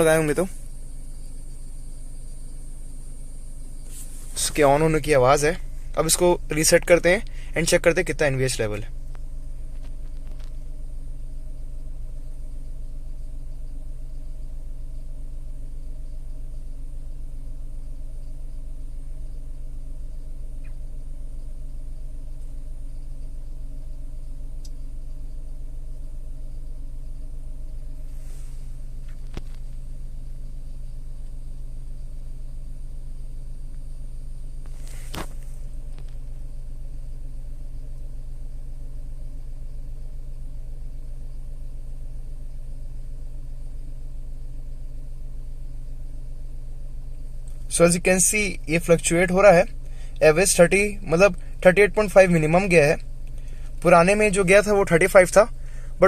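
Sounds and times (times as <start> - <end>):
car engine idling inside cabin: 0.0 - 56.0.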